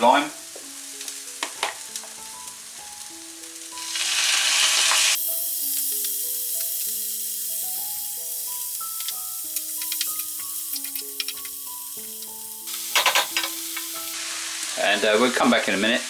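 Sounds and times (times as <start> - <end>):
meat sizzling in a pan: 0.0 - 16.0
soft background music: 0.0 - 16.0.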